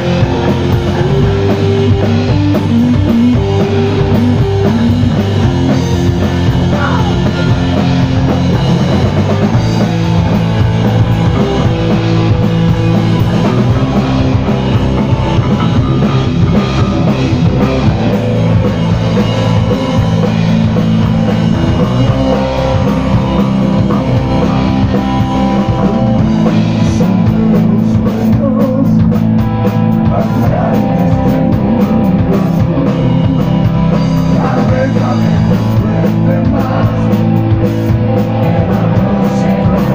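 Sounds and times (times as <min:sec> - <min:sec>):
distorted electric guitar: 0:00.0 - 0:39.9
drum kit: 0:00.0 - 0:39.9.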